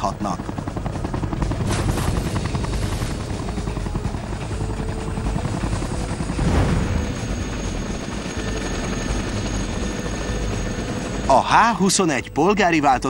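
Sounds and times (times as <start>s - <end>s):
helicopter rotor chopping: 0.0s - 12.0s
helicopter engine drone: 0.0s - 13.0s.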